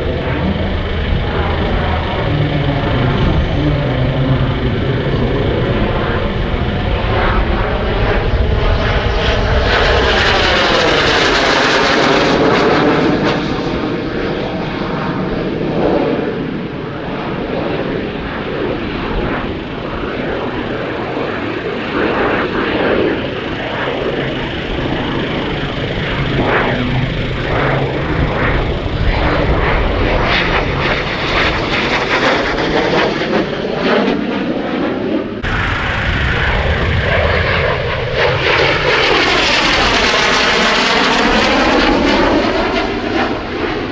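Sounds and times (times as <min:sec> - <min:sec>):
jet aircraft passing: 0:00.0 - 0:14.4, 0:17.1 - 0:43.9.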